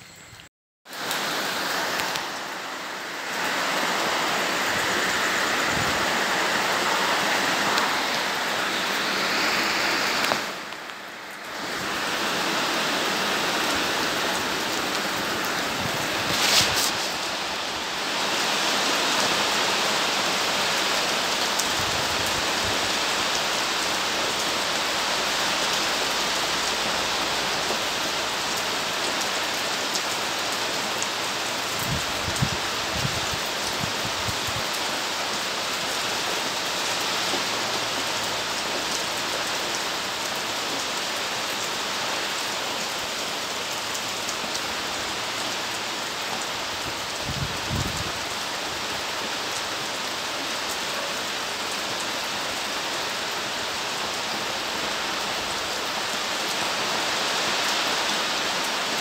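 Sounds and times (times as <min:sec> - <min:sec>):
steady rain falling: 0:00.8 - 0:59.0.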